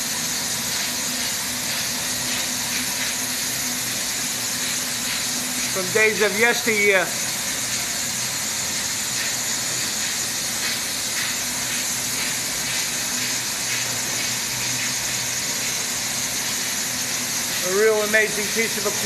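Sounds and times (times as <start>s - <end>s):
steady hiss: 0.7s - 19.0s.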